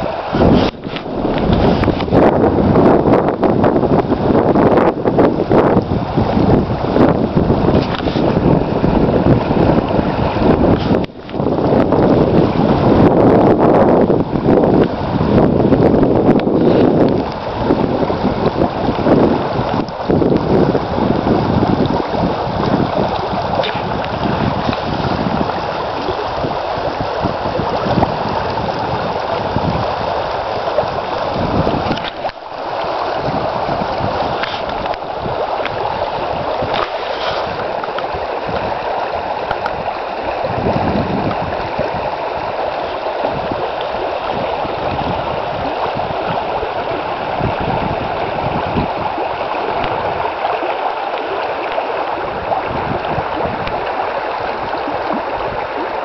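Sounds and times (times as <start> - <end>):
creek rushing over rocks: 0.0 - 56.0
wind buffeting microphone: 0.0 - 56.0.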